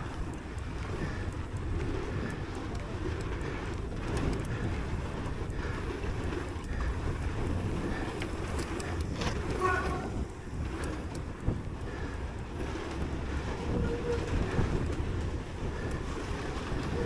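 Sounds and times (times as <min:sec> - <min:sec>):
bike tyres rumbling on trail: 0:00.0 - 0:17.0
faint clicks and rattles: 0:00.0 - 0:17.0
wind on microphone: 0:00.0 - 0:17.0.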